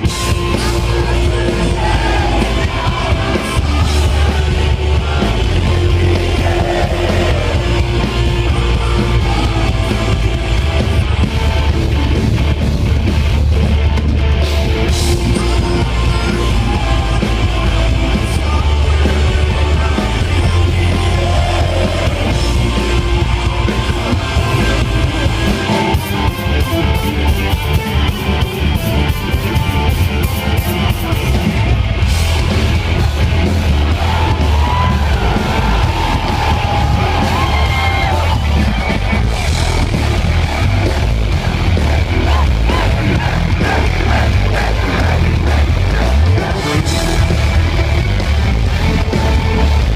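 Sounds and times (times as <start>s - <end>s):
bass guitar: 0.0s - 49.9s
distorted electric guitar: 0.0s - 49.9s
drums: 0.0s - 49.9s.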